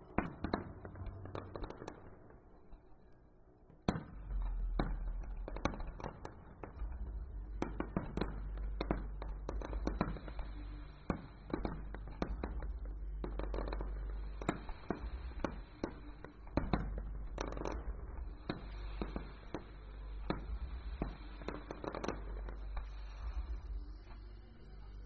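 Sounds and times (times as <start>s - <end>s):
distant fireworks bursting: 3.8s - 24.9s
low rumble: 4.1s - 25.0s.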